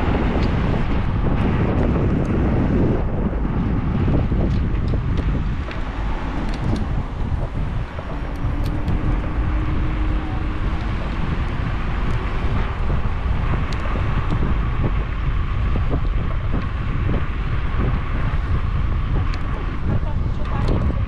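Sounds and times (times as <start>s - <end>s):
faint whine: 0.0s - 21.0s
low rumble: 0.0s - 21.0s
wind buffeting microphone: 0.0s - 21.0s.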